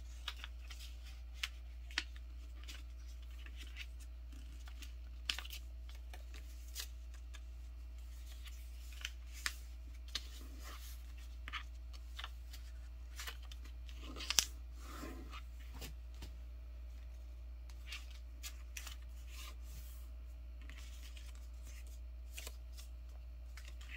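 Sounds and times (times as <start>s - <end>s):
paper rustling and creasing: 0.0s - 16.2s, 17.7s - 23.9s
steady low hum: 0.0s - 23.9s.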